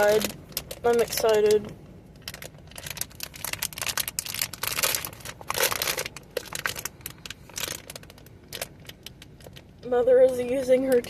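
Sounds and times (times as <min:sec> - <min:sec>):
plastic wrapper crinkling and tearing: 0:00.0 - 0:09.9.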